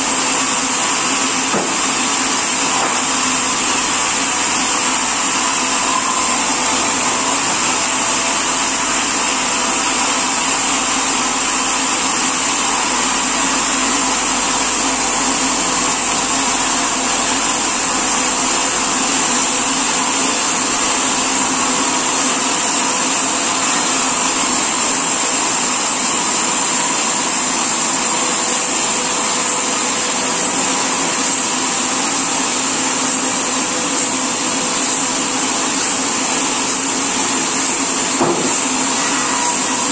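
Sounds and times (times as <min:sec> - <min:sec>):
high-pitched machine whine: 0:00.0 - 0:39.9
sawmill machinery running: 0:00.0 - 0:39.9.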